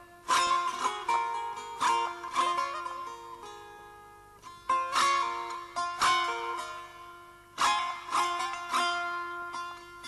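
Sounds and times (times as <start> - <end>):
long-necked lute plucked: 0.0 - 10.0.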